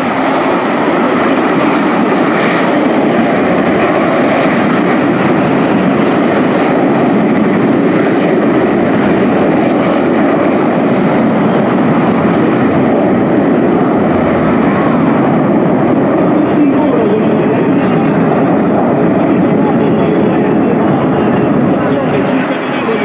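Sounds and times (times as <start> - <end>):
jet aircraft rushing noise: 0.0 - 23.0.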